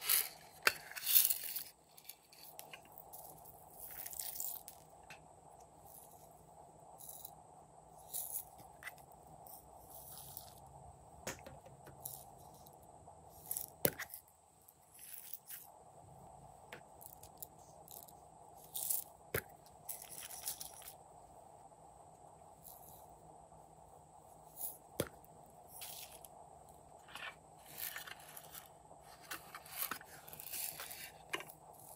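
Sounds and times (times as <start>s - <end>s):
low background hum: 0.0s - 31.9s.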